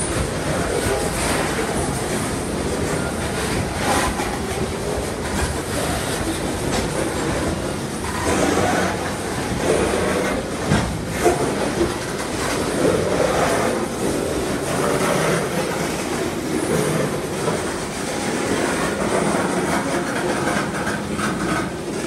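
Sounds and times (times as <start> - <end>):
train wheels clattering over rails: 0.0 - 22.0.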